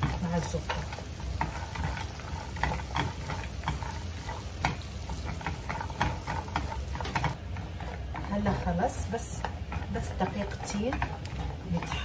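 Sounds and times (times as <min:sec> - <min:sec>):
light sizzle: 0:00.0 - 0:12.0
nuts and spatula scraping pan: 0:00.0 - 0:12.0.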